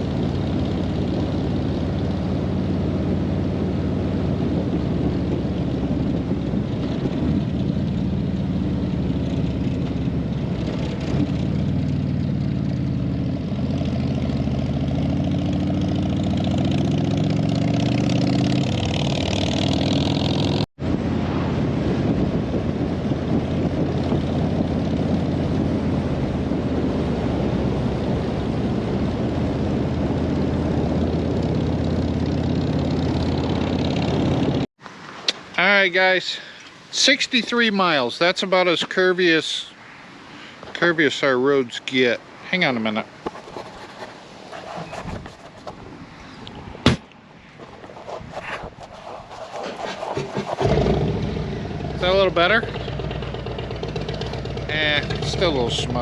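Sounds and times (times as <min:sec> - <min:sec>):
motorcycle engine at road speed: 0:00.0 - 0:34.7, 0:43.2 - 0:56.0.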